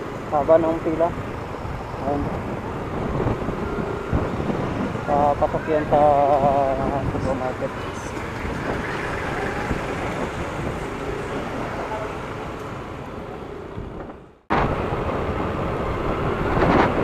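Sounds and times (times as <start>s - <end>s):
scooter riding noise: 0.0s - 17.0s
wind and road noise: 0.0s - 17.0s.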